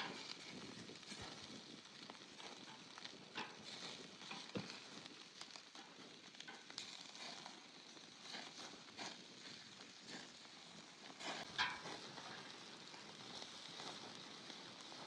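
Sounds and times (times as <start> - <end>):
food sizzling over campfire: 0.0 - 15.0.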